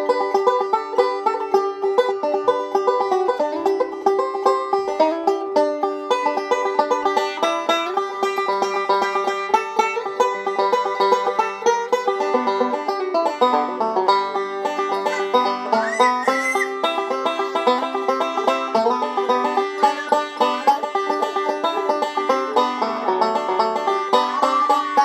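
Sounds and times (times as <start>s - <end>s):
banjo picking: 0.0s - 25.0s.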